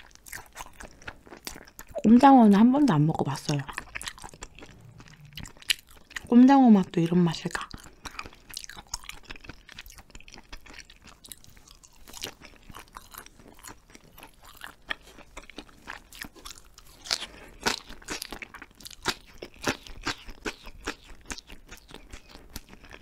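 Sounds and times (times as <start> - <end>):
soft chewing: 0.0 - 23.0.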